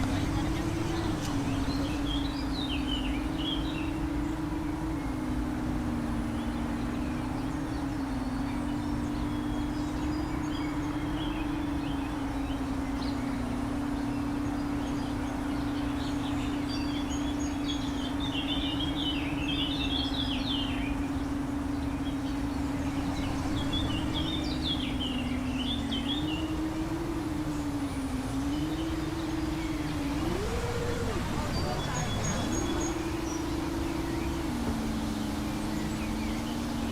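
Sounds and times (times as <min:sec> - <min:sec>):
birds chirping: 0:00.0 - 0:36.9
quadcopter motors buzzing: 0:00.0 - 0:36.9.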